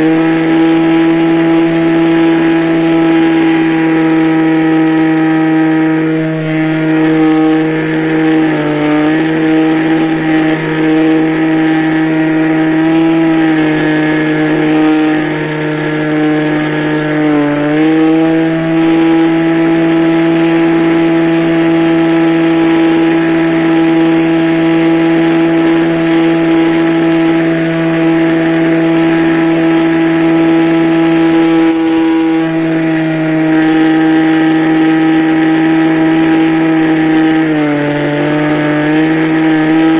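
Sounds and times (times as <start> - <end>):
model airplane engine running: 0.0 - 39.9.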